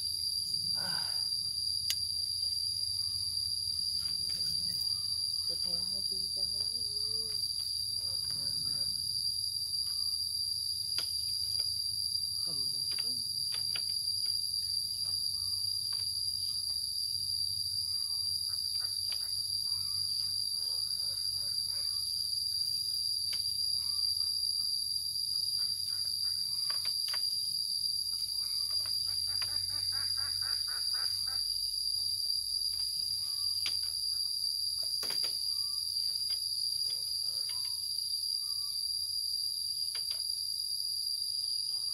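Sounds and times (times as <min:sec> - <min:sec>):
high-pitched insect drone: 0:00.0 - 0:41.9.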